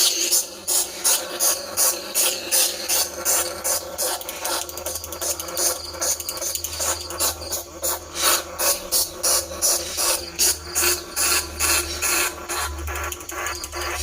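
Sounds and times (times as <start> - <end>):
rat squeaks and chitters: 0.0 - 14.0
steady low hum: 0.0 - 14.0.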